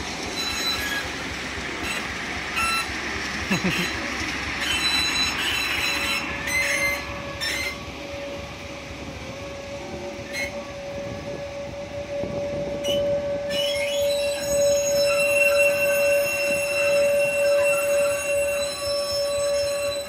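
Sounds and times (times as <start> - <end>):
diesel locomotive moving slowly: 0.0 - 20.0
steady high-pitched squeal: 0.0 - 20.0.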